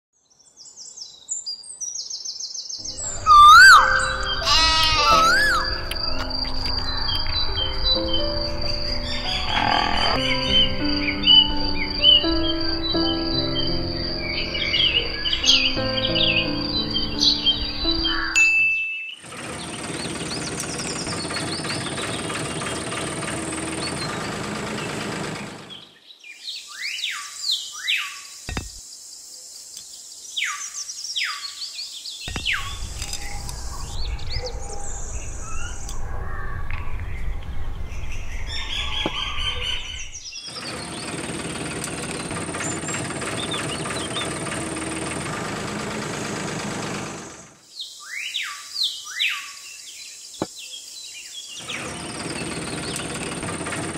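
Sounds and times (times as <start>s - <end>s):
birds chirping: 0.3s - 53.9s.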